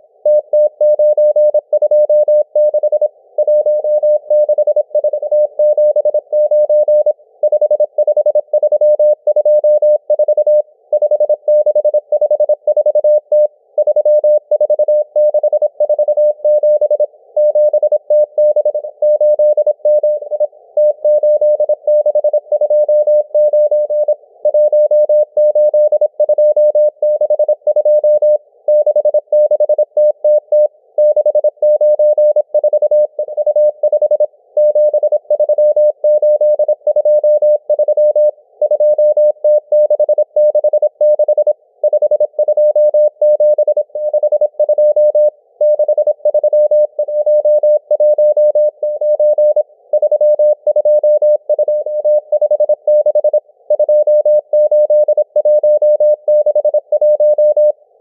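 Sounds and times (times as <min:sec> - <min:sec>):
morse code beeps: 0:00.3 - 0:57.8.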